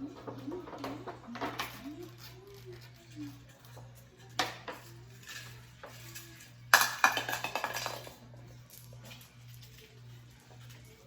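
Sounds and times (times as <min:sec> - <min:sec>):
dishes and utensils clattering: 0:00.0 - 0:11.0.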